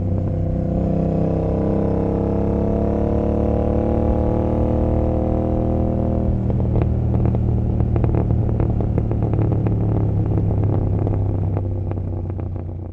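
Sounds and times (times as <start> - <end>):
exhaust crackling and popping: 0.0 - 12.9
motorcycle engine running: 0.0 - 12.9.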